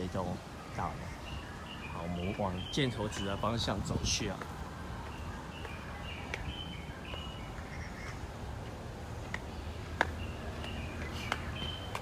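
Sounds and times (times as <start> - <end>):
birds chirping: 0.0 - 12.0
low background noise: 0.0 - 12.0.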